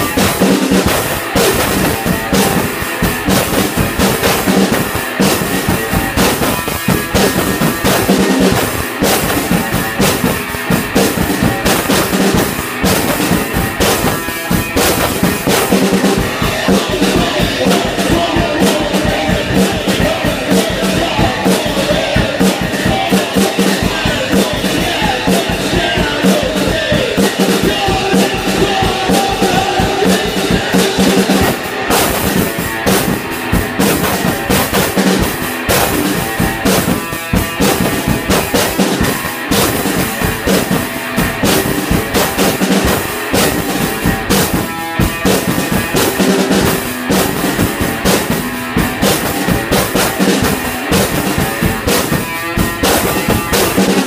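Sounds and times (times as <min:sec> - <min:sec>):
drum kit steady beat: 0:00.0 - 0:54.0
electric guitar playing: 0:00.0 - 0:54.0.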